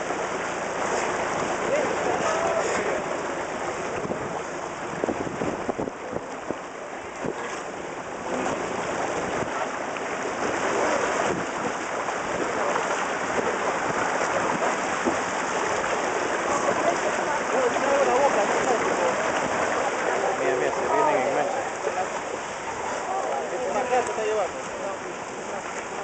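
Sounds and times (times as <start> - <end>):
surf breaking on rocks: 0.0 - 26.0.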